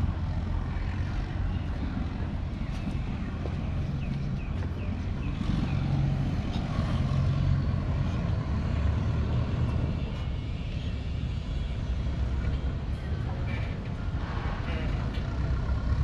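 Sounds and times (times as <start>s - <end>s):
large engine droning: 0.0s - 16.0s.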